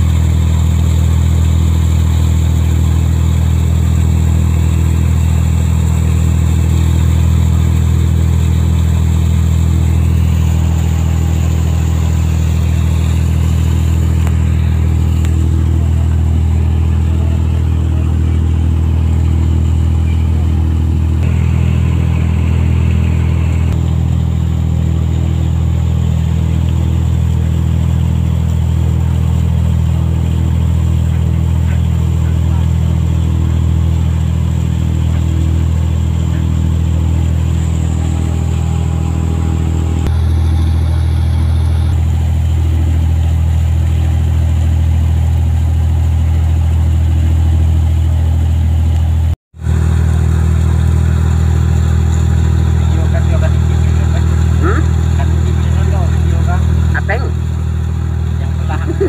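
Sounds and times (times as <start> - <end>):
boat engine droning: 0.0 - 59.0
water splashing along hull: 0.0 - 59.0.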